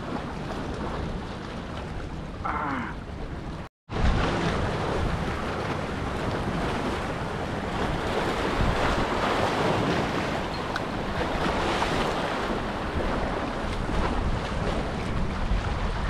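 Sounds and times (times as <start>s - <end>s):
small waves splashing against rocks: 0.0s - 2.4s, 3.9s - 16.0s
wind buffeting microphone: 0.0s - 16.0s.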